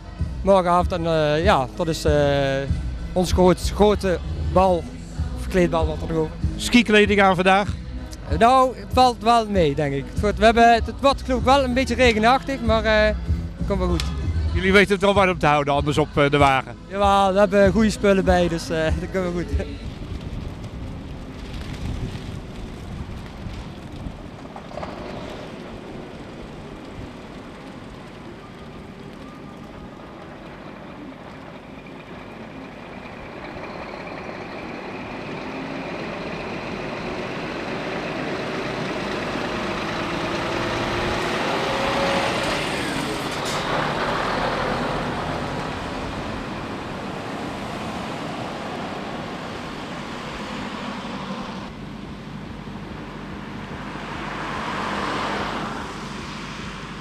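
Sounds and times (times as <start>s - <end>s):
lorry engine and tyres passing: 0.0s - 57.0s
other vehicles running: 0.0s - 57.0s.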